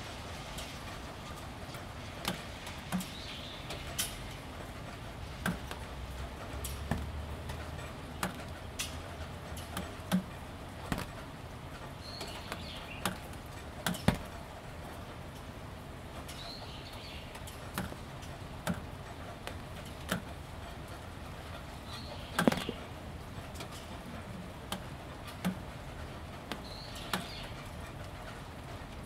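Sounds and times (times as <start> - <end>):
light rain pattering: 0.0 - 29.0
drips tapping on plastic roofing: 0.5 - 29.0.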